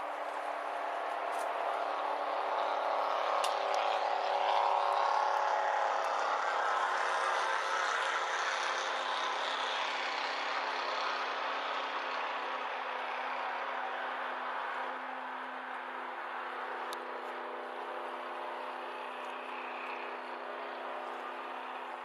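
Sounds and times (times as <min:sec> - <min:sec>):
airplane engine drone: 0:00.0 - 0:22.0.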